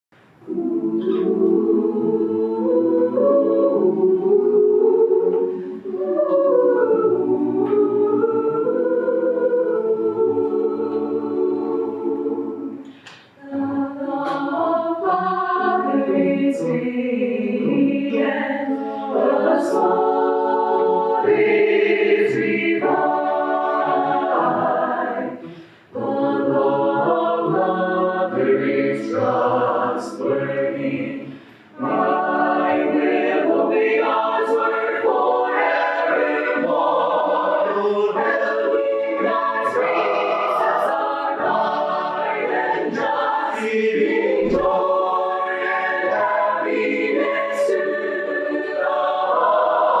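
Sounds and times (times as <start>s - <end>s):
choir singing a hymn: 0.3s - 50.0s.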